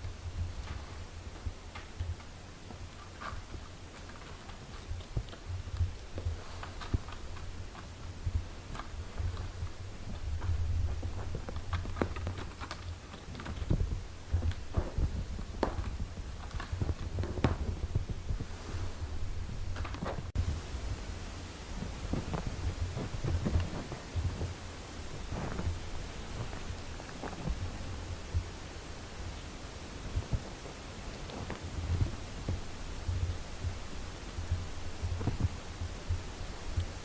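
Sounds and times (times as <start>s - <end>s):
steady low rumble: 4.7s - 37.0s.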